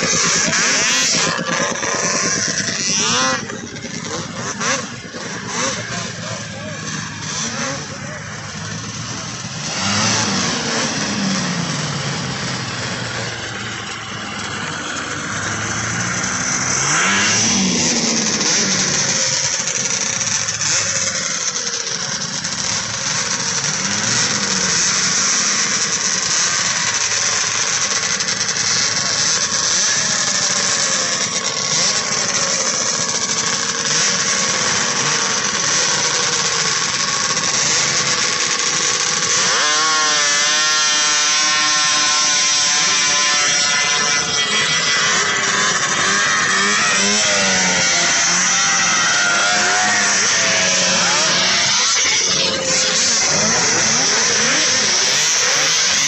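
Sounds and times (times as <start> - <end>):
steady high whine: 0.0 - 39.3, 41.1 - 56.0
snowmobile engines revving: 0.0 - 56.0.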